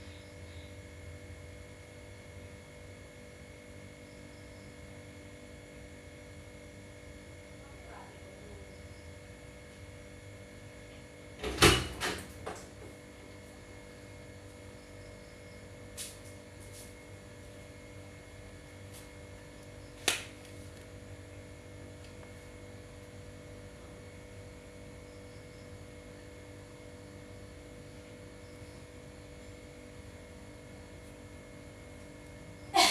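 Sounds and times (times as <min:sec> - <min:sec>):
steady electrical hum: 0:00.0 - 0:32.9.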